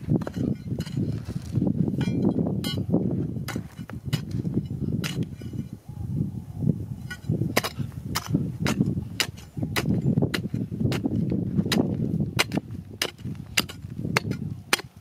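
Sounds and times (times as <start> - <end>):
digging bar striking stony soil: 0.0 - 5.8, 7.0 - 15.0
dirt and stones crunching: 0.0 - 5.8, 7.0 - 15.0.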